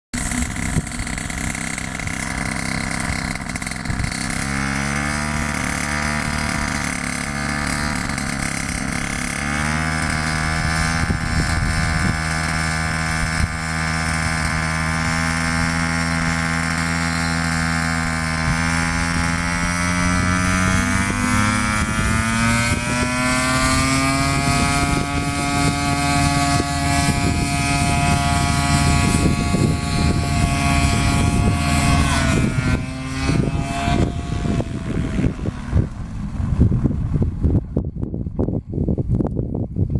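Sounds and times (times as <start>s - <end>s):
propeller engine revving: 0.1s - 37.9s.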